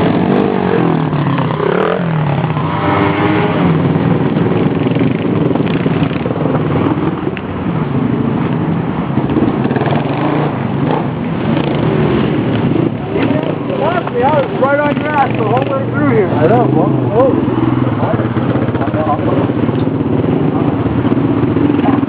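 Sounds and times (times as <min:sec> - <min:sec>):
dirt bike engine revving: 0:00.0 - 0:07.3, 0:09.1 - 0:22.0.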